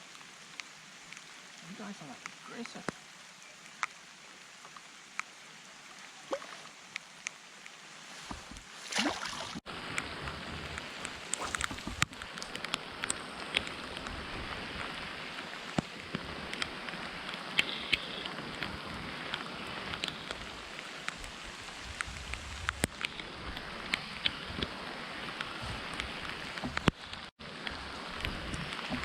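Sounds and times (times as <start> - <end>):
heavy rain on lake water: 0.0 - 29.0.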